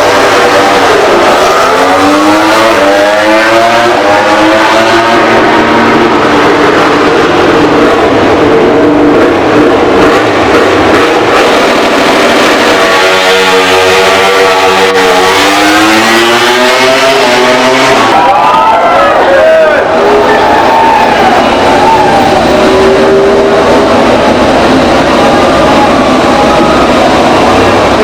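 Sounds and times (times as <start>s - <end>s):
race motorcycle engines revving: 0.0s - 28.0s.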